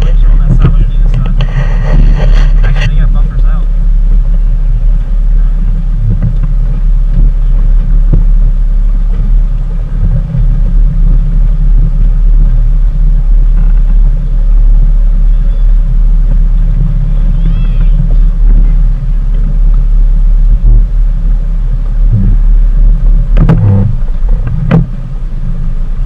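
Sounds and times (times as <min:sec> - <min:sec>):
motorboat engine rumble: 0:00.0 - 0:26.0.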